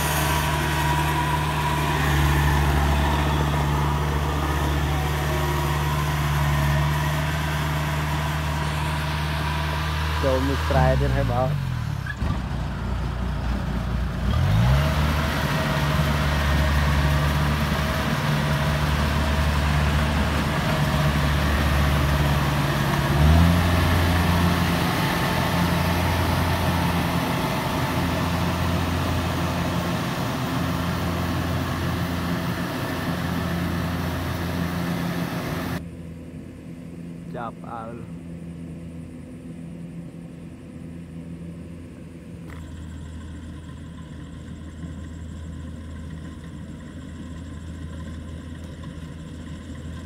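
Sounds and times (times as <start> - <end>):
combine harvester diesel engine: 0.0 - 50.0.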